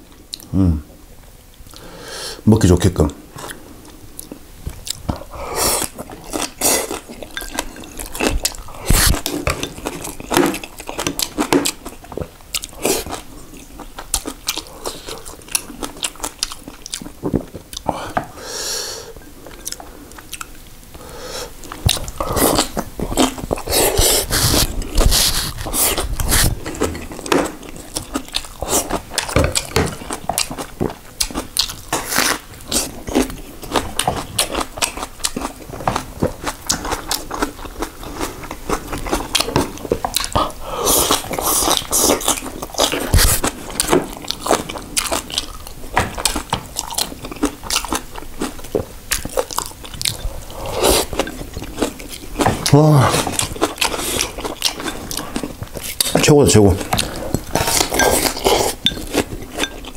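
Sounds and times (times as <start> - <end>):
person chewing and crunching food: 3.0 - 59.9.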